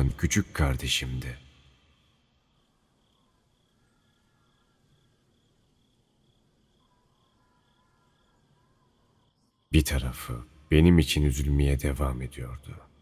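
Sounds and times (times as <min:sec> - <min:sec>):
faint crickets chirping: 0:00.0 - 0:13.0.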